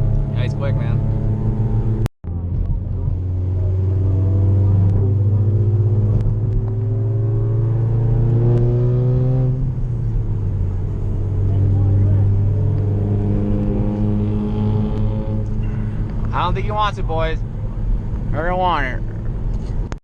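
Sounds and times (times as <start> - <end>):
car engine under load: 0.0 - 20.0
low road drone: 0.0 - 20.0.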